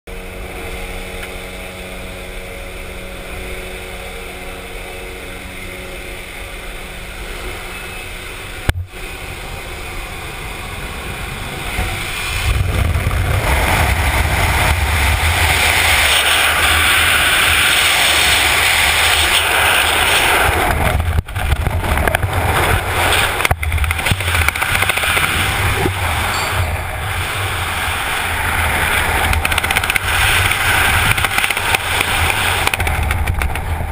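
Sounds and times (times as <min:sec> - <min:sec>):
plane engine droning: 0:00.1 - 0:33.9
wind rushing over microphone: 0:03.3 - 0:33.9.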